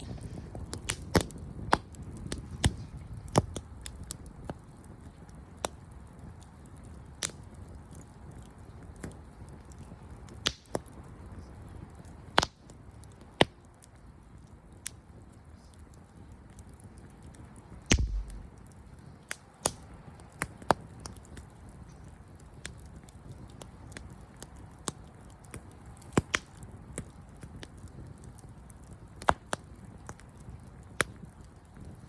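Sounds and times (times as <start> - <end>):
campfire crackling and popping: 0.0 - 32.0
flames rustling: 0.0 - 32.0.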